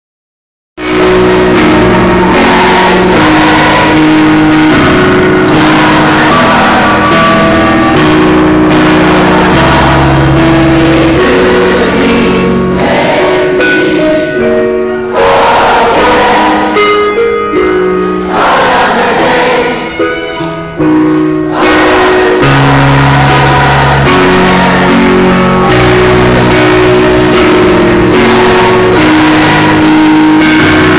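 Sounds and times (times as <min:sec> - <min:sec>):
crowd singing along: 0:00.8 - 0:30.9
live rock ballad: 0:00.8 - 0:30.9.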